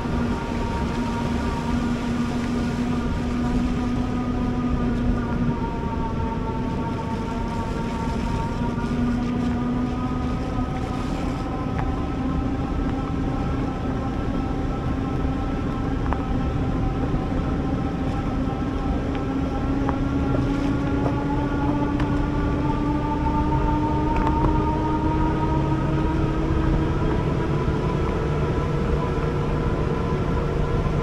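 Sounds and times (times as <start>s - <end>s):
low rumble: 0.0s - 31.0s.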